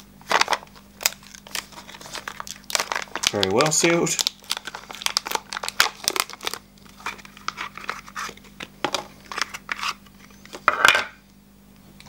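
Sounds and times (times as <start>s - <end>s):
plastic bag crinkling and tearing: 0.2s - 10.0s.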